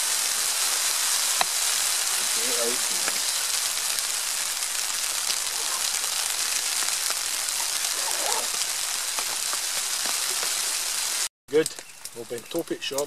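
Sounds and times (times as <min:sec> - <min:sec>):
rain on a tarp: 0:00.0 - 0:13.0.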